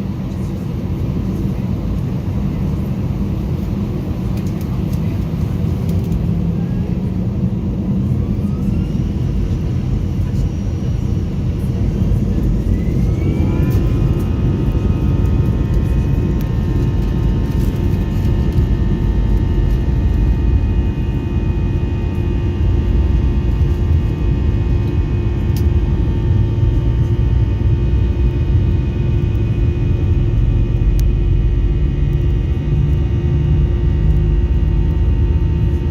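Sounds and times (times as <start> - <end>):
jet engine whine: 0.0 - 35.9
loud engine rumble: 0.0 - 35.9.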